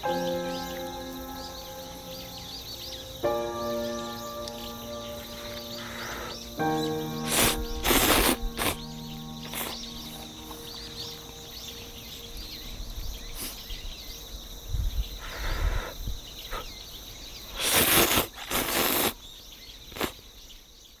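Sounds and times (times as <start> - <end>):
outdoor background noise: 0.0 - 21.0
small birds chirping: 0.0 - 21.0.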